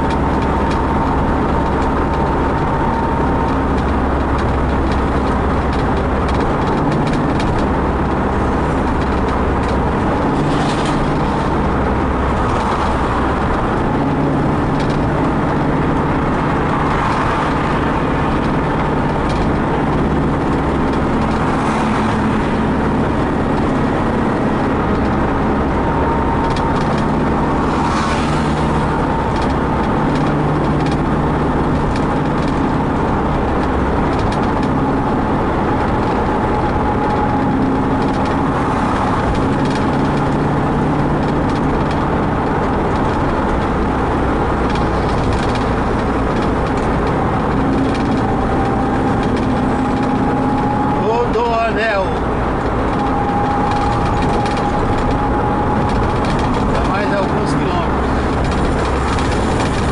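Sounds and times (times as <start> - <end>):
tyre road noise: 0.0 - 59.9
vehicle engine hum: 0.0 - 59.9.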